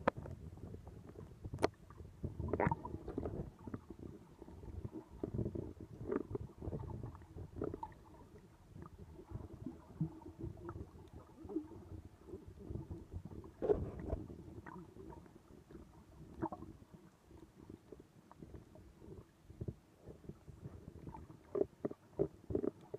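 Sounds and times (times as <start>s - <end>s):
underwater rumble and gurgling: 0.0s - 22.9s.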